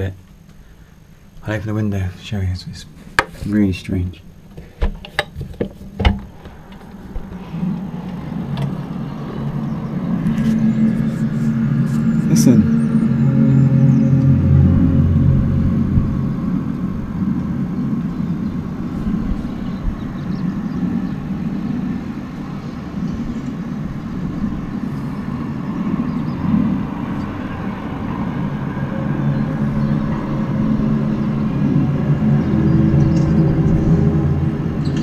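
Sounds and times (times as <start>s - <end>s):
low droning rumble outside: 0.0s - 35.0s.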